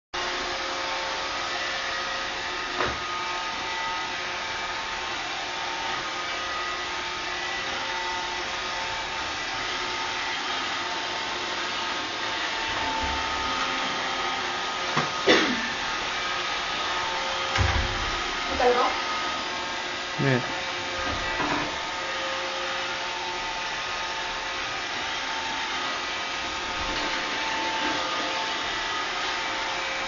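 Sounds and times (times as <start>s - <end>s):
robot vacuum running: 1.4s - 30.0s.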